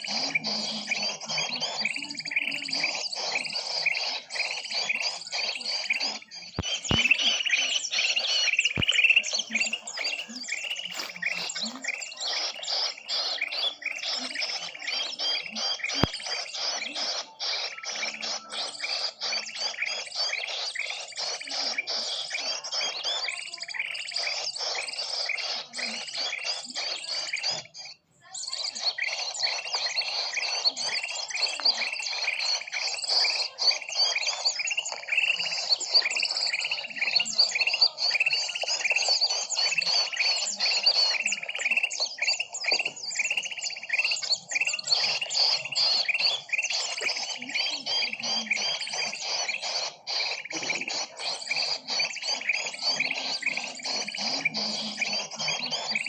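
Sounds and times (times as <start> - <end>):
small birds chirping in chorus: 0.0 - 56.0.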